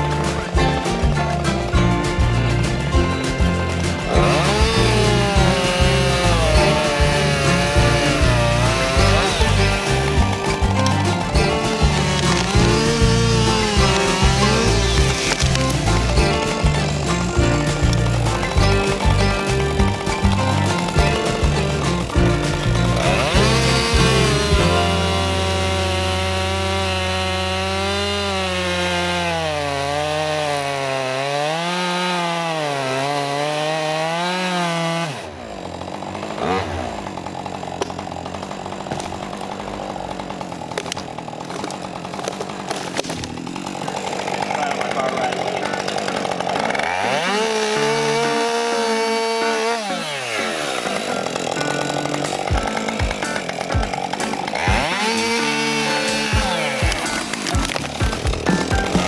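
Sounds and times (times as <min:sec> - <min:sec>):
chainsaw cutting a tree: 0:00.0 - 0:59.0.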